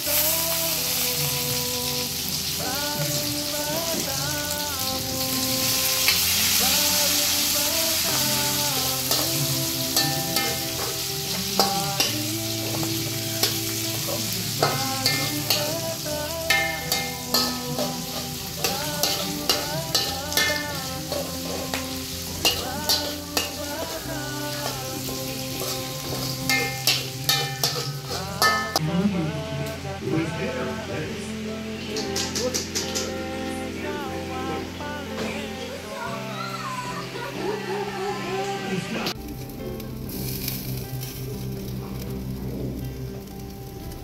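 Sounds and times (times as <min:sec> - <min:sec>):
background music: 0:00.0 - 0:44.0
food sizzling on a grill: 0:00.0 - 0:44.0.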